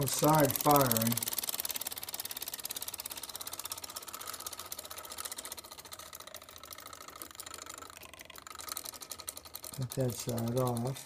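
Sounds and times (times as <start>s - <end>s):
rapid clicking of switch contacts: 0.0s - 11.0s.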